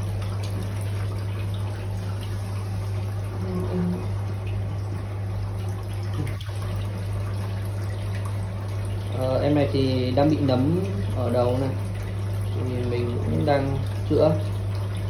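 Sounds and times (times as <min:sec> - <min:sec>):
low pump hum: 0:00.0 - 0:15.0
water trickling: 0:00.0 - 0:15.0.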